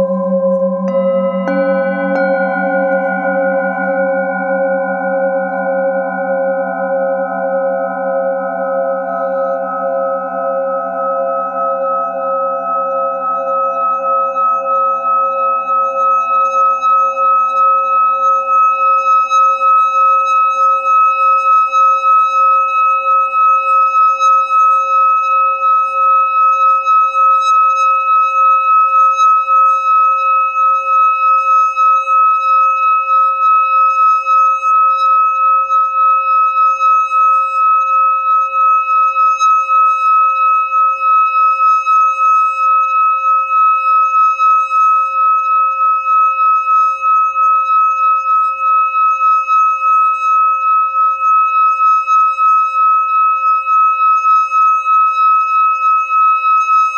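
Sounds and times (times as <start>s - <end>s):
singing bowl ringing tone: 0.0s - 56.9s.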